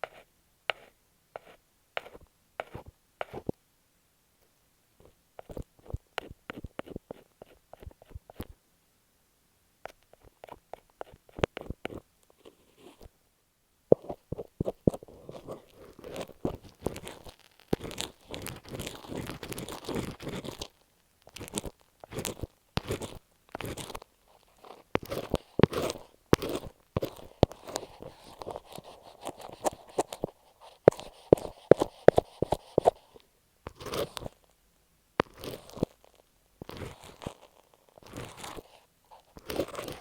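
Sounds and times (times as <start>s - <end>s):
continuous scratching rub: 0.0s - 3.6s, 5.0s - 8.6s, 9.9s - 13.1s, 13.9s - 34.5s, 35.2s - 40.0s.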